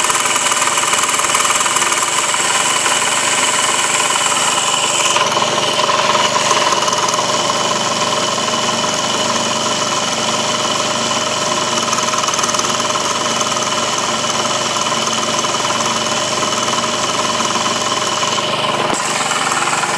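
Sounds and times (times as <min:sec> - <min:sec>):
scooter engine idling: 0:00.0 - 0:19.9.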